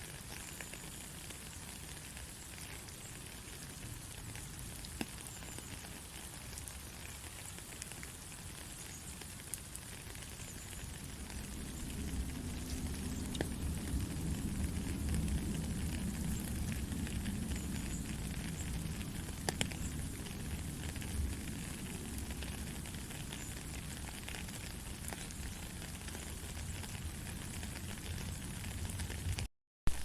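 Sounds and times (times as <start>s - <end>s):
gentle rain hiss: 0.0s - 30.0s
raindrop ticks: 0.1s - 30.0s.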